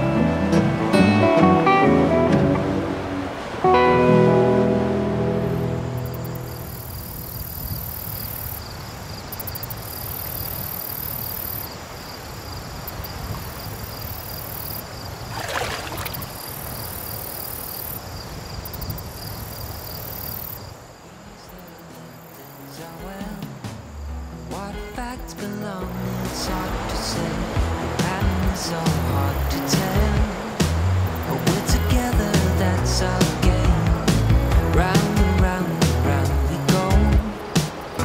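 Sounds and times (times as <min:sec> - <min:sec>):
insects chirping: 0:04.3 - 0:38.0.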